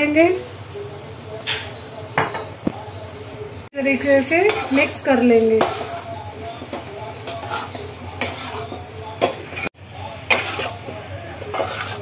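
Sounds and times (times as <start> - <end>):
noodles sizzling in frying pan: 0.0 - 2.1, 2.7 - 12.0.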